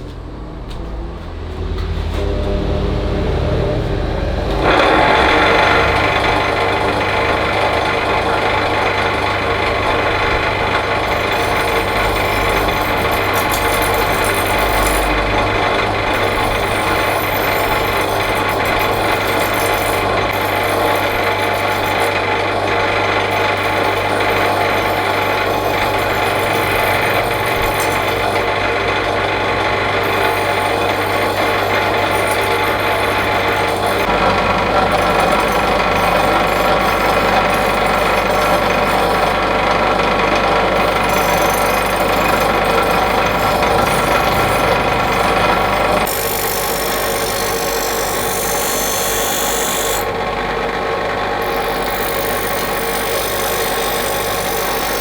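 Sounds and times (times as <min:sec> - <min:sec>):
electric grinder grinding steel: 0:00.0 - 0:55.0.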